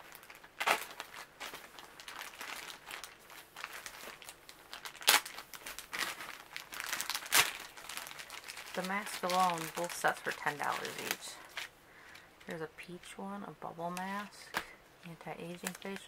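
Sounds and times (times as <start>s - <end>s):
plastic packets crinkling: 0.0s - 12.6s, 13.8s - 16.0s.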